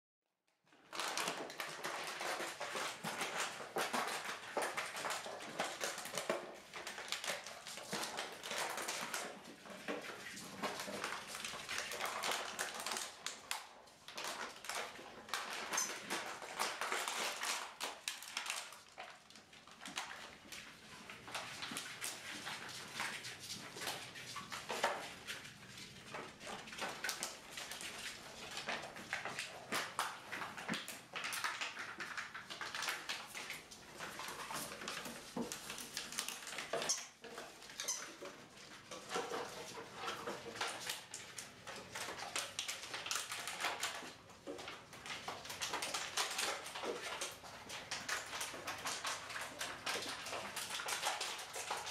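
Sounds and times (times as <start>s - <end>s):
puppy claws clicking on tiles: 0.7s - 51.9s.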